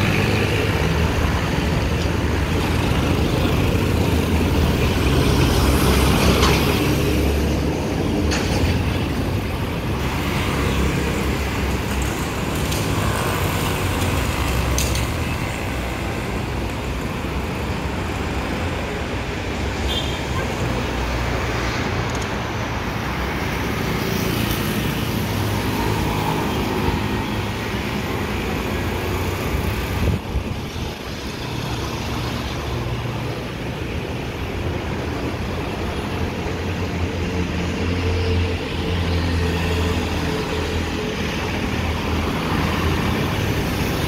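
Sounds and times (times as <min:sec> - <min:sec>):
cars and motorcycles passing: 0:00.0 - 0:44.0.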